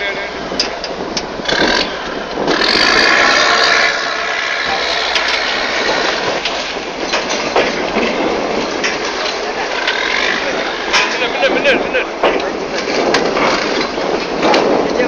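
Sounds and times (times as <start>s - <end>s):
boat engine clattering: 0.0s - 15.0s
water noise: 0.0s - 15.0s
wind on microphone: 0.0s - 15.0s.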